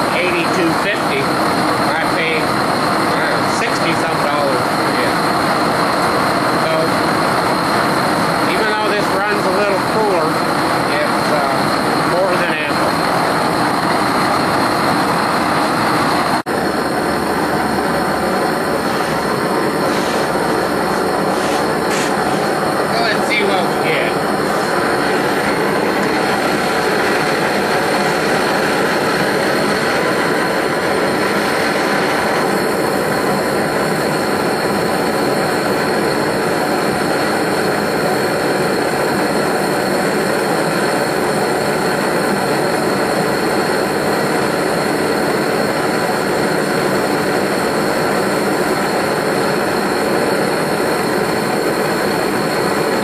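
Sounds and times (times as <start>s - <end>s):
propane torch roaring: 0.0s - 53.0s.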